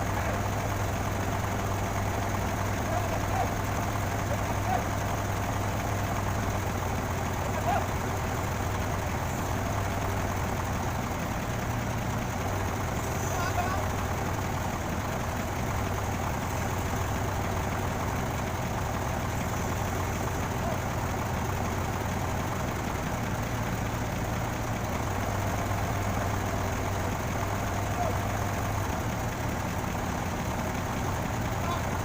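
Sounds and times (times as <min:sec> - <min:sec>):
crane engine idling: 0:00.0 - 0:32.0.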